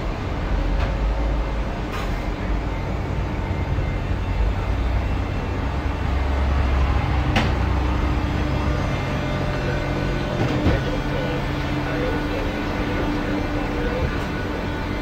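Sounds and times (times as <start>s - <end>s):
heavy vehicle running close: 0.0s - 15.0s
street traffic rumble: 0.0s - 15.0s.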